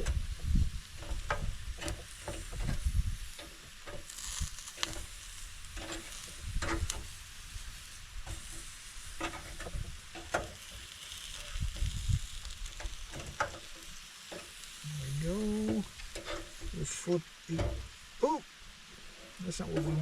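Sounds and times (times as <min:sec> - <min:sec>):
steaks sizzling on a grill: 0:00.0 - 0:20.0.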